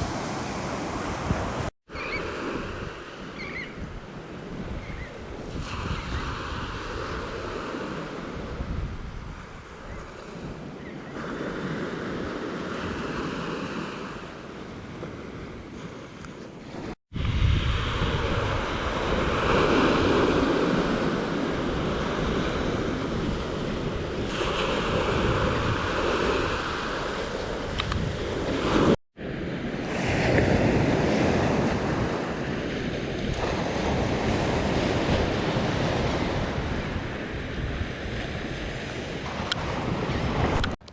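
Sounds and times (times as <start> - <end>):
waves breaking on beach: 0.0 - 40.9
wind on microphone: 0.0 - 40.9.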